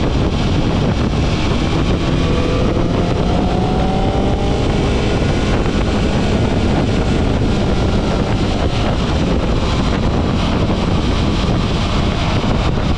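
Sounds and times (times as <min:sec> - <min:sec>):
road and engine rumble: 0:00.0 - 0:12.9
wind buffeting microphone: 0:00.0 - 0:12.9.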